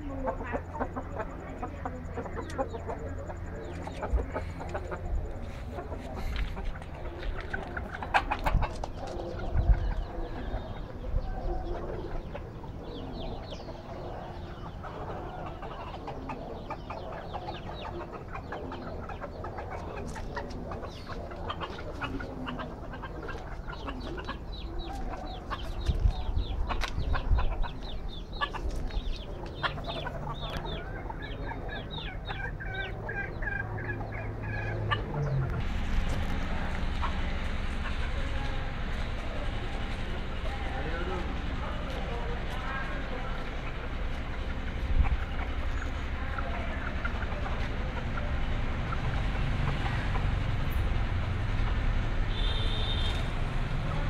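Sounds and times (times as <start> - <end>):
chickens clucking: 0.0 - 54.0
steady low hum: 0.0 - 54.0.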